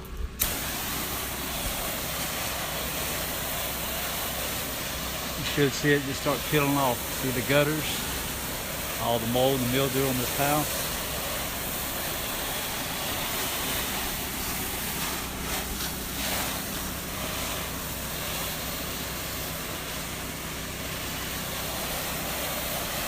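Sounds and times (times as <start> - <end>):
pressure washer engine running: 0.0 - 23.0
water spray hissing: 0.0 - 23.0.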